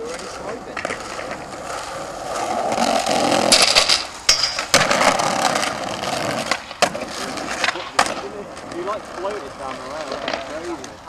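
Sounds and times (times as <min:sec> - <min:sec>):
skateboard clacking on ground: 0:00.0 - 0:11.0
skateboard wheels rolling on pavement: 0:00.0 - 0:11.0.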